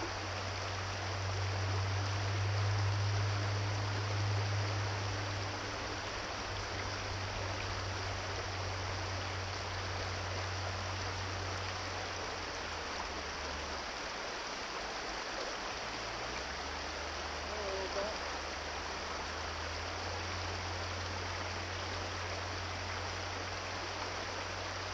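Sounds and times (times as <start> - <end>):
brook running over rocks: 0.0 - 24.9.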